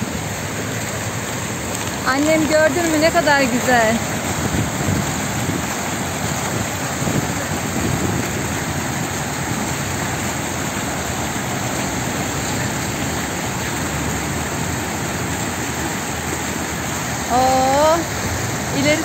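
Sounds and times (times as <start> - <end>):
fountain water jets splashing: 0.0 - 19.0
water pouring over a step: 0.0 - 19.0.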